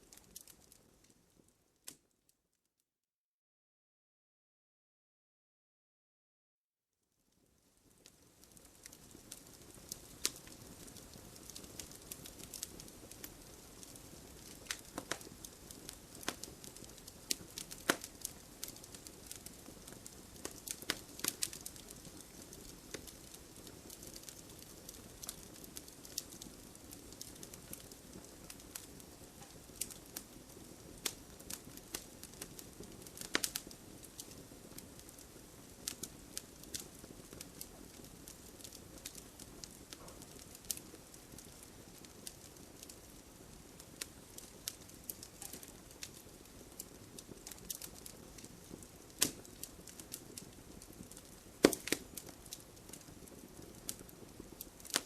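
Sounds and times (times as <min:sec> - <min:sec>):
wood fire crackling and popping: 0:00.0 - 0:02.1, 0:07.4 - 0:55.0.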